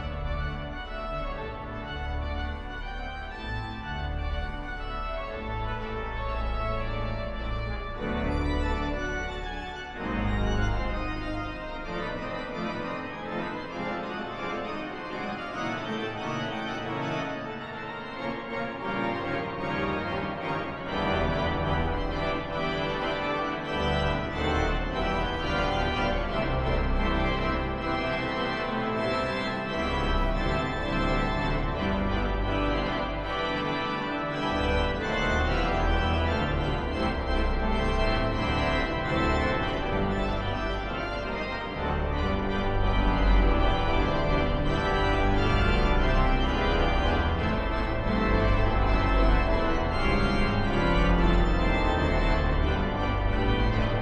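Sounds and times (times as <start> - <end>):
pipe organ chords: 0.0 - 54.0.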